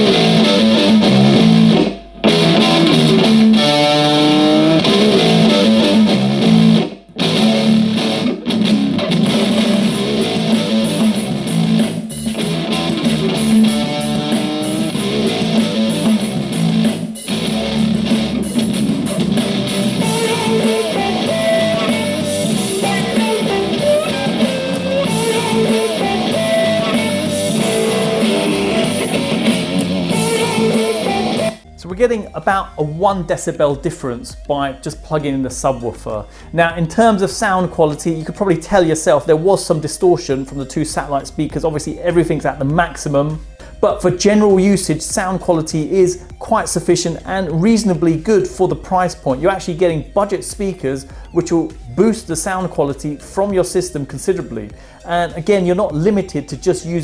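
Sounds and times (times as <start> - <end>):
distorted guitar music from speakers: 0.0 - 57.0.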